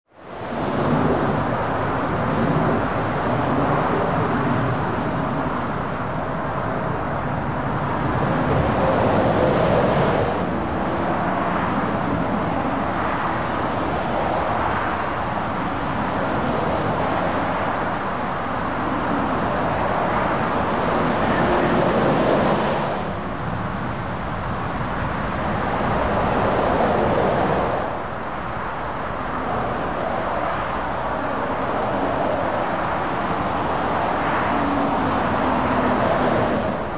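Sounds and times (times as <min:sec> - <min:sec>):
traffic passing: 0:00.3 - 0:36.9.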